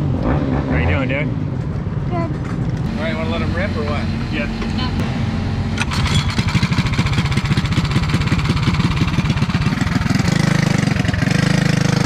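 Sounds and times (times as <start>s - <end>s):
go-kart engine running: 2.3s - 12.0s.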